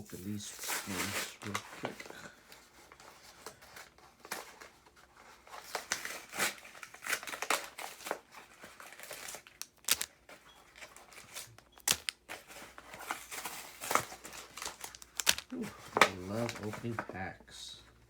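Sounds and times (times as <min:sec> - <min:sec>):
foil packs tearing and crinkling: 0:00.3 - 0:17.3.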